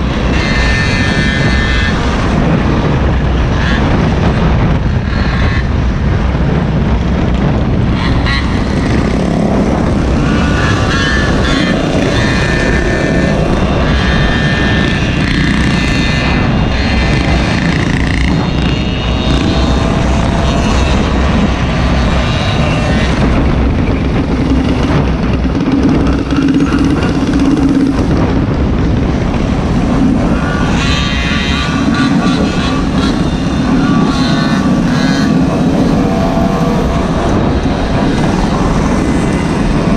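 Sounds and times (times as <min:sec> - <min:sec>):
small petrol engines revving: 0:00.0 - 0:39.9.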